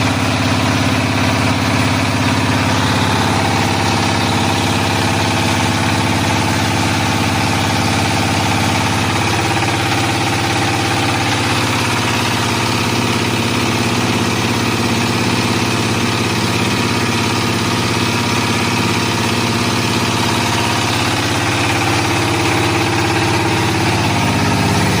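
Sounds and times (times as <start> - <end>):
machine motor humming: 0.0 - 25.0.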